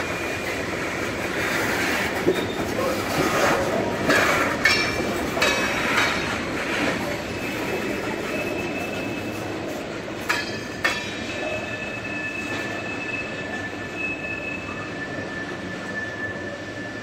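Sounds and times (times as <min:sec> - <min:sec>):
train wheels squealing: 0:00.0 - 0:17.0.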